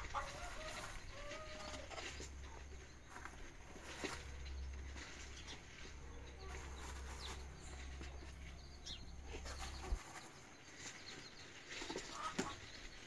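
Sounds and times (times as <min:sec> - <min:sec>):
low hum: 0:00.0 - 0:11.1
rustling of husk bedding: 0:00.0 - 0:13.0.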